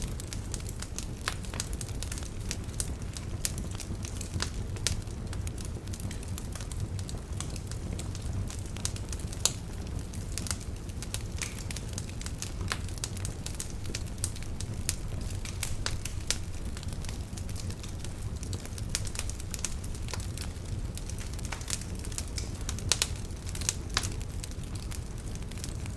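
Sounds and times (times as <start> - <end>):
fire rumbling in fireplace: 0.0 - 25.9
logs crackling and popping: 0.0 - 25.9.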